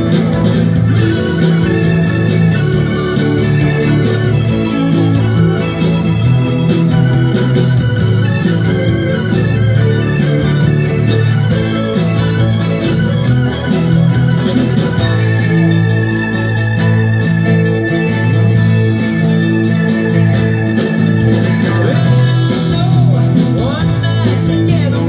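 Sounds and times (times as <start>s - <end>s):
organ holding chords: 0.0s - 25.0s
steady drum beat: 0.0s - 25.0s.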